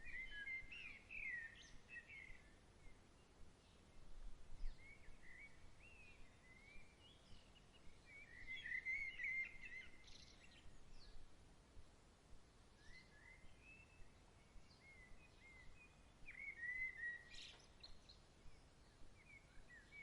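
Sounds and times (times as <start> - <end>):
soft outdoor hiss: 0.0 - 20.0.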